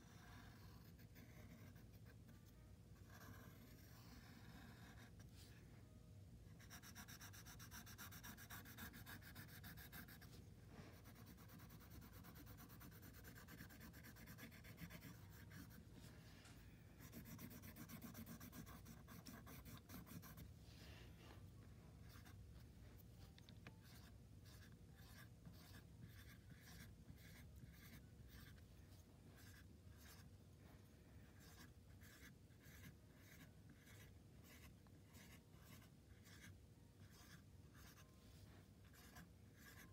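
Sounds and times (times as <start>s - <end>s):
stick scratching oil pastel: 6.6s - 21.4s, 22.0s - 39.9s.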